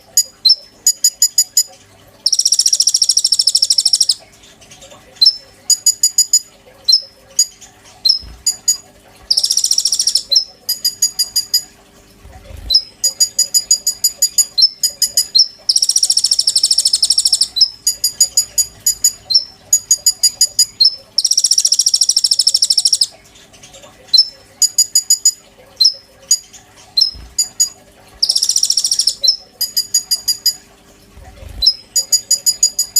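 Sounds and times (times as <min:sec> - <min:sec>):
bird buzzy trills: 0:00.0 - 0:32.9.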